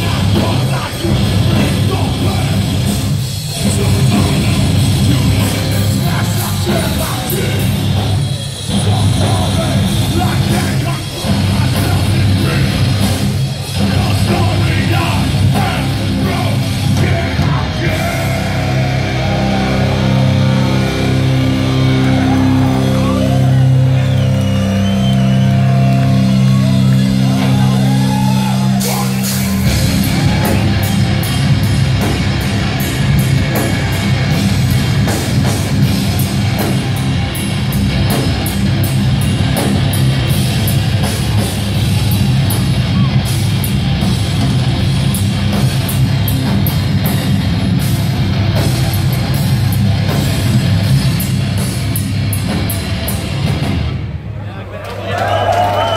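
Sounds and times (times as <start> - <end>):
distorted guitars and bass: 0.0 - 54.4
drums and cymbals: 0.0 - 54.4.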